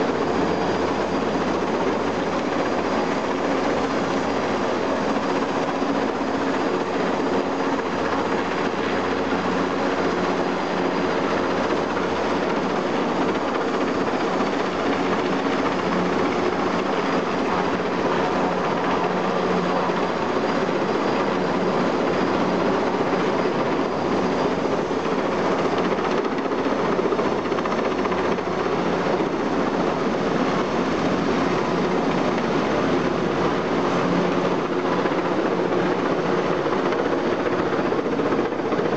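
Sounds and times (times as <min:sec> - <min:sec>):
helicopter hovering: 0:00.0 - 0:38.9.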